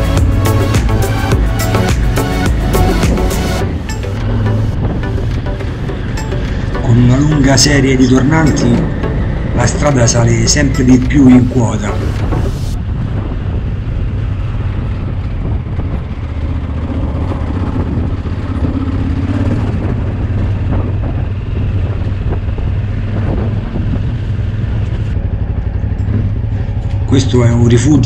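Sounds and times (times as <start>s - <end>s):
motorcycle engine droning: 0.0s - 28.0s.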